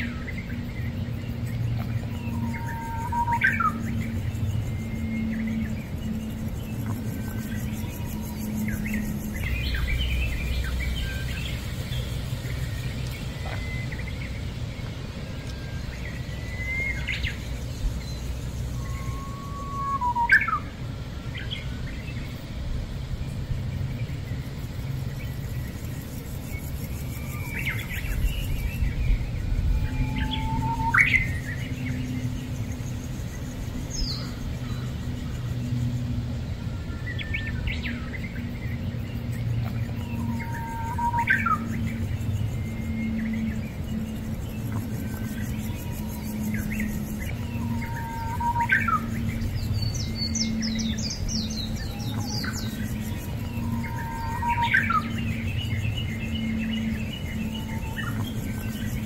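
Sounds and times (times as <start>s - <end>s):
birds chirping: 0.0s - 59.0s
low background rumble: 0.0s - 59.0s.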